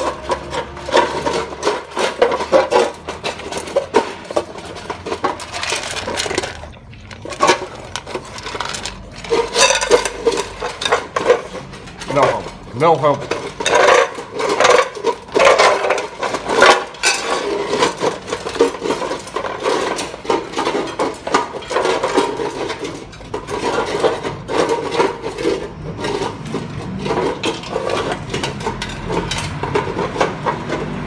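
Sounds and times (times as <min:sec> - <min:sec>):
dogs crunching kibble: 0:00.0 - 0:31.0
dogs lapping: 0:00.0 - 0:31.0
metal bowls scraping on concrete: 0:00.0 - 0:31.0.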